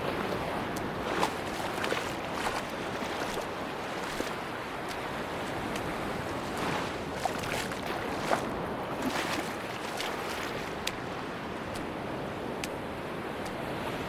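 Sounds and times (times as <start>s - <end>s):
sea surf washing on beach: 0.0s - 14.0s
wind: 0.0s - 14.0s.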